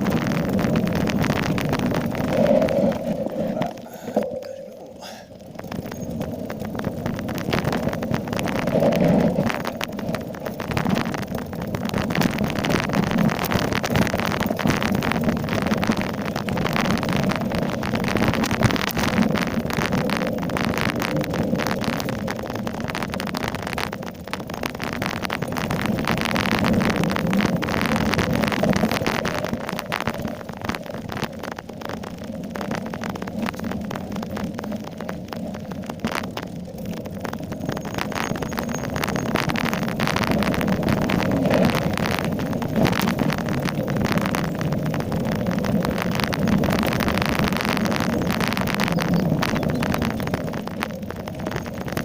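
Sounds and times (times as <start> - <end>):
mountain bike rattling over trail: 0.0 - 52.0.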